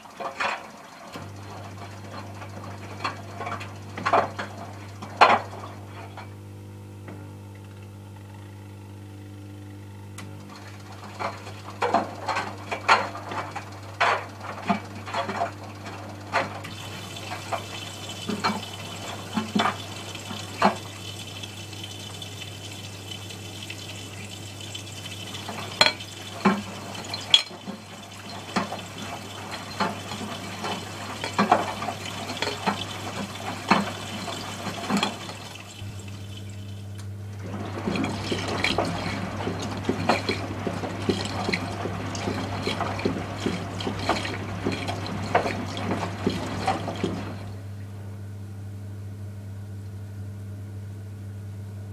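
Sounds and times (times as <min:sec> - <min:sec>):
water sloshing in washing machine: 0:00.0 - 0:06.4, 0:10.3 - 0:48.0
washing machine low hum: 0:00.0 - 0:51.9.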